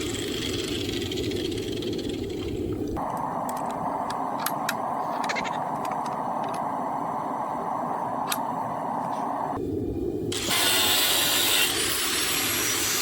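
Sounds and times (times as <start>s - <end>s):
forge burner roaring: 0.0s - 13.0s.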